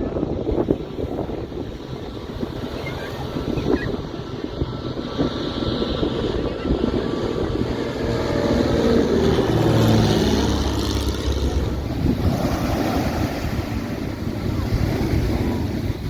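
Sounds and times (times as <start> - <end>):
jet engines rumbling overhead: 0.0 - 16.0
surf: 0.0 - 16.0
wind on microphone: 0.0 - 16.0.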